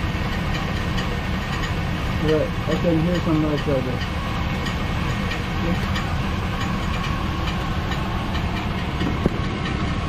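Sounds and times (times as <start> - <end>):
faint metallic ticking: 0.0 - 10.0
pickup engine idling: 0.0 - 10.0.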